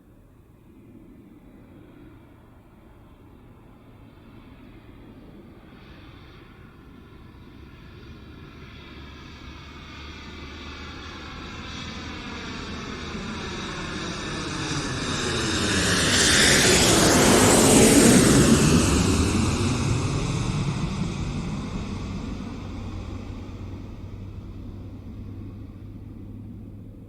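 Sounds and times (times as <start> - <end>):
jet airliner passing overhead: 0.2 - 27.0.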